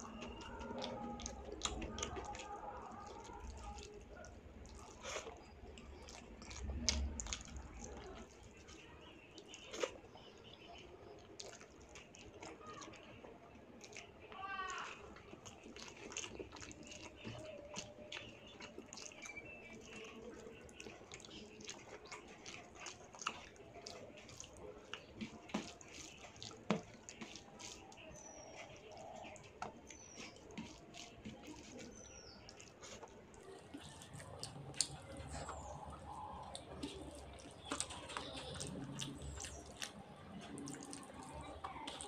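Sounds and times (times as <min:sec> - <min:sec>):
wet squelching of rice: 0:00.0 - 0:42.0.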